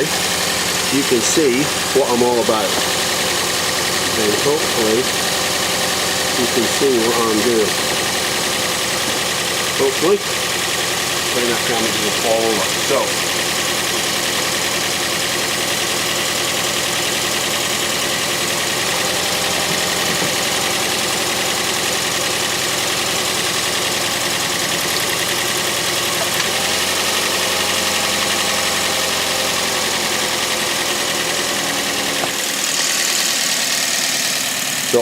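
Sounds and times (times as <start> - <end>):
car engine idling roughly: 0.0 - 35.0.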